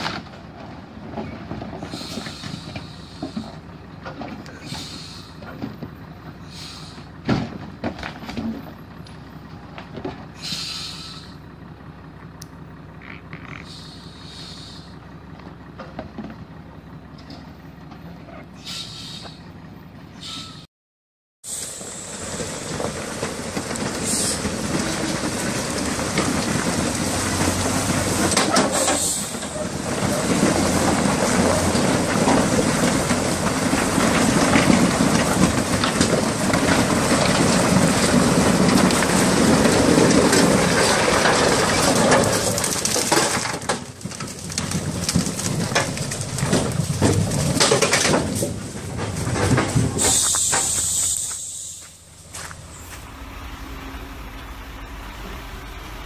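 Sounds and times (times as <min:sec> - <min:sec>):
wheels clattering on gravel road: 0:00.0 - 0:20.6, 0:21.5 - 0:53.7
diesel trucks running under load: 0:00.0 - 0:20.7, 0:21.4 - 0:56.0.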